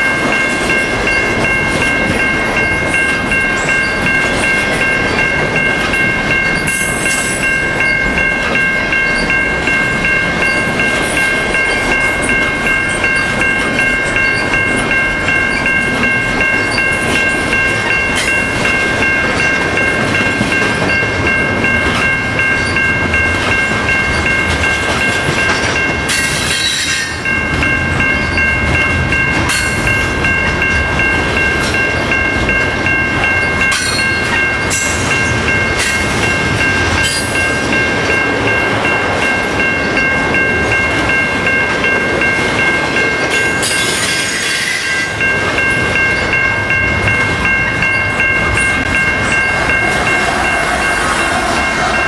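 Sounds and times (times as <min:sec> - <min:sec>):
train wheels rumbling clickety-clack: 0:00.0 - 0:52.0.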